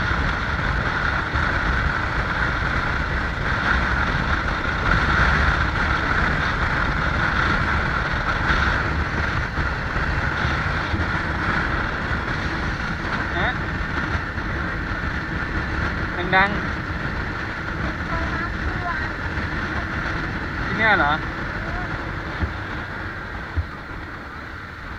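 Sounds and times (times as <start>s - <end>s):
road noise rumble: 0.0s - 24.9s
wind hiss: 0.0s - 24.9s.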